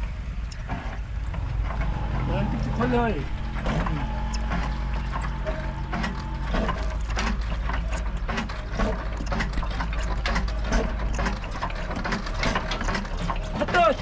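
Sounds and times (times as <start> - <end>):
low hum: 0.0 - 13.7
stationary engine hand-cranked clicking: 0.0 - 14.0.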